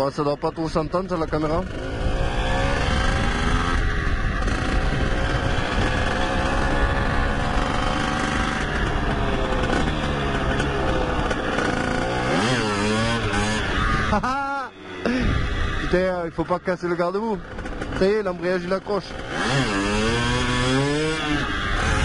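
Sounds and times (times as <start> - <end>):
two-stroke motorbike engine revving: 0.0 - 22.0.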